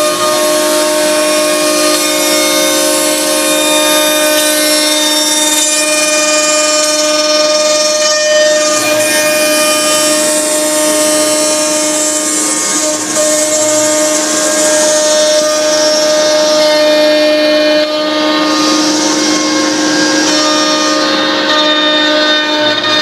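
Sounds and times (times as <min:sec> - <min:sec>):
hiss of cutting wood: 0:00.0 - 0:22.3
router spindle whine: 0:00.0 - 0:23.0.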